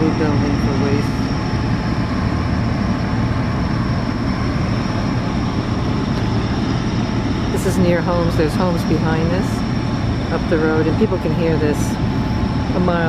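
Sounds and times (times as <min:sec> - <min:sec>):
compressor engines droning: 0:00.0 - 0:13.0
high whine: 0:00.0 - 0:13.0.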